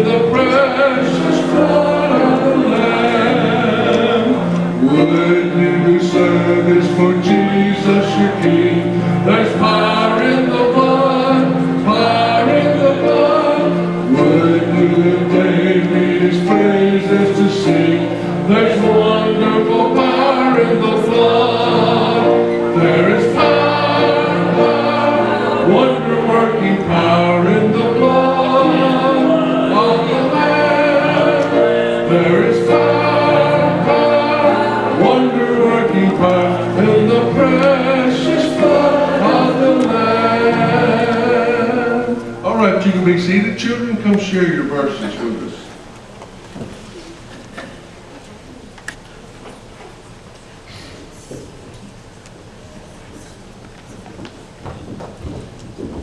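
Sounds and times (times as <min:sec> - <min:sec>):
choir singing gospel: 0:00.0 - 0:45.8.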